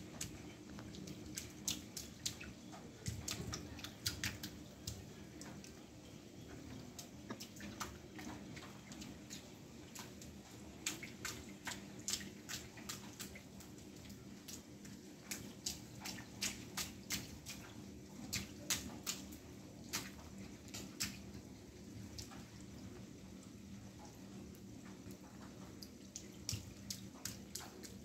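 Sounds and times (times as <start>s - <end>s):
water dripping into puddles: 0.0s - 28.0s.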